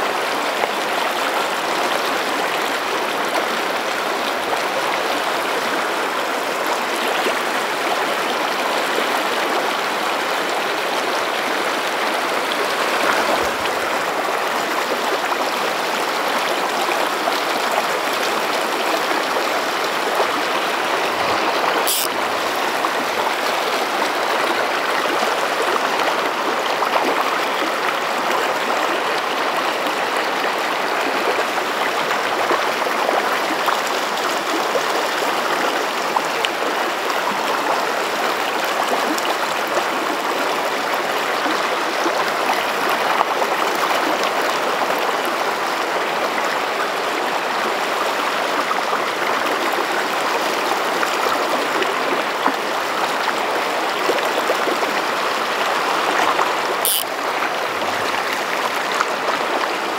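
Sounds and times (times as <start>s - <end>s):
river flowing over rocks: 0.0s - 59.9s.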